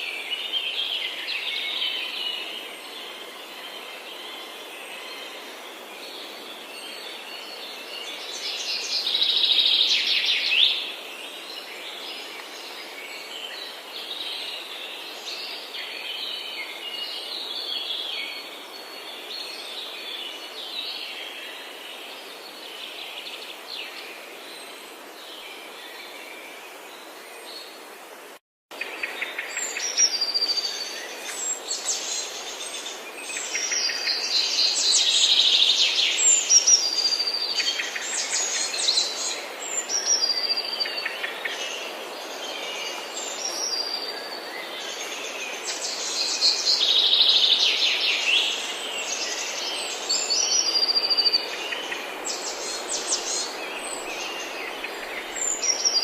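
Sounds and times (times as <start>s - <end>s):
songbirds singing and chirping: 0.0s - 28.0s, 28.7s - 56.0s
steady background hiss: 0.0s - 56.0s.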